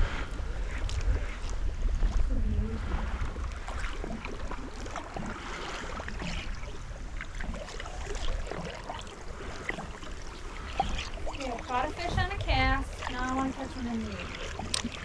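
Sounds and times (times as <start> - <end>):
rumble of wind and water: 0.0 - 15.0
small splashes: 0.8 - 15.0.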